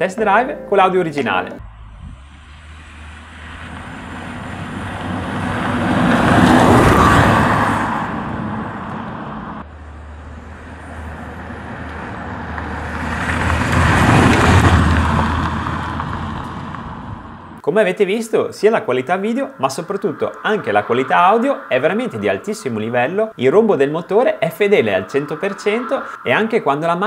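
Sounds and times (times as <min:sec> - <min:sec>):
car driving past: 0:01.6 - 0:17.6, 0:19.2 - 0:26.8.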